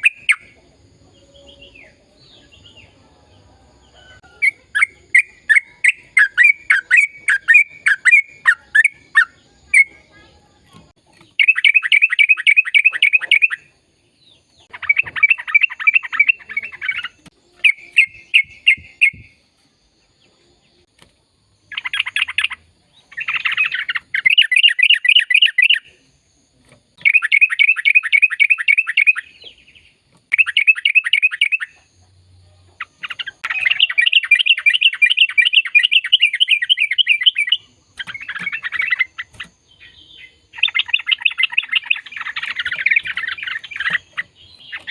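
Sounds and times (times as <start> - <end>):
bulbul chirping and trilling: 0.0 - 0.6, 4.4 - 10.1, 11.1 - 19.4, 21.6 - 26.0, 26.9 - 32.1, 32.8 - 44.9.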